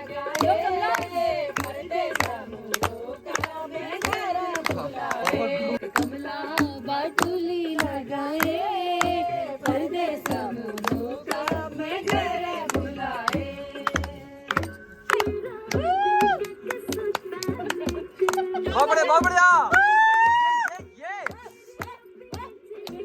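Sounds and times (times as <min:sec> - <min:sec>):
rhythmic hand clapping: 0:00.0 - 0:23.0
voices singing together: 0:00.0 - 0:23.0.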